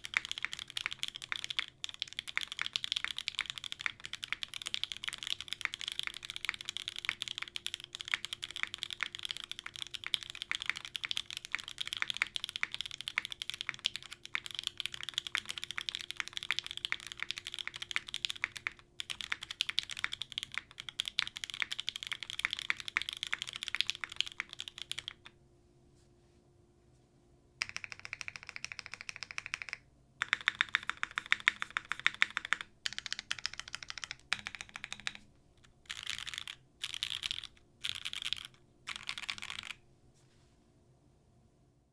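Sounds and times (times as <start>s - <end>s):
fast typing on mechanical keyboard: 0.0s - 25.3s, 27.6s - 35.2s, 35.8s - 39.8s.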